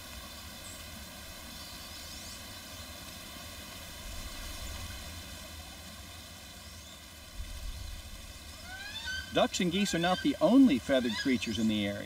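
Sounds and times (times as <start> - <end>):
faint even hiss: 0.0 - 12.0.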